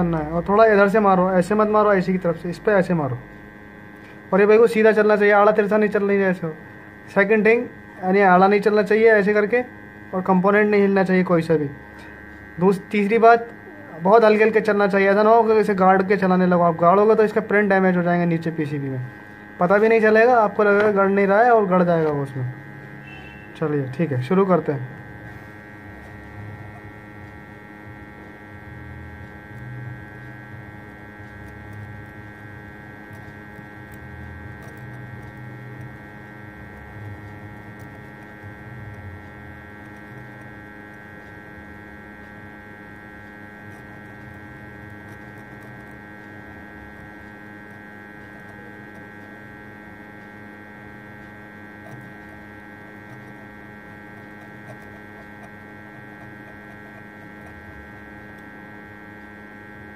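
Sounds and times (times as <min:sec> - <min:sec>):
hot-air station hum and whine: 0:00.0 - 0:59.9.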